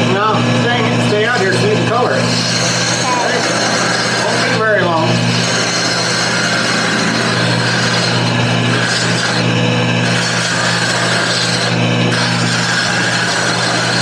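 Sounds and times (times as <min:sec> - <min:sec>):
lathe motor hum: 0:00.0 - 0:14.0
tool scraping spinning wood: 0:00.0 - 0:14.0.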